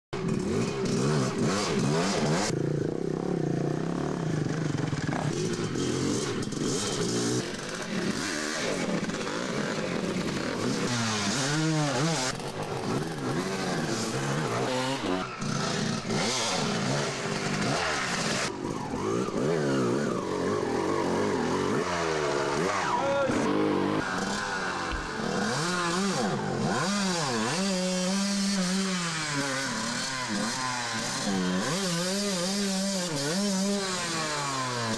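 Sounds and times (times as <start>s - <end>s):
off-road motorcycles revving: 0.2s - 34.9s.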